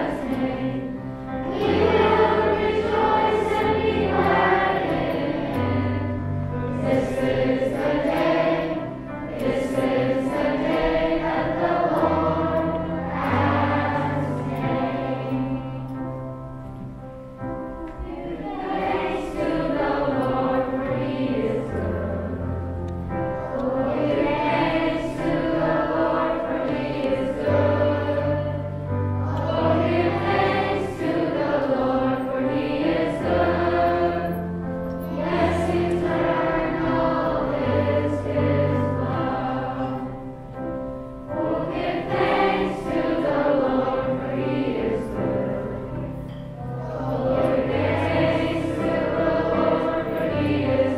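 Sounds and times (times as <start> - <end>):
choir singing: 0.0 - 16.4, 17.7 - 50.9
electric keyboard: 0.0 - 50.9.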